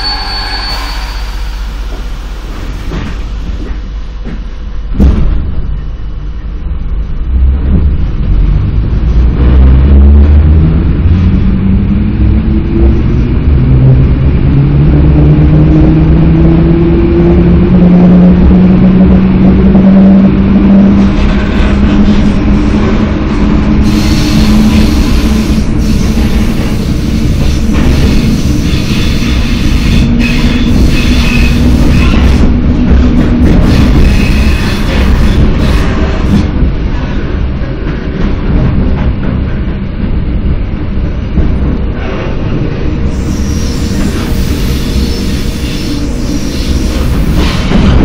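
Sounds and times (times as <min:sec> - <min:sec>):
train wheels rumbling on track: 0:00.0 - 0:48.0.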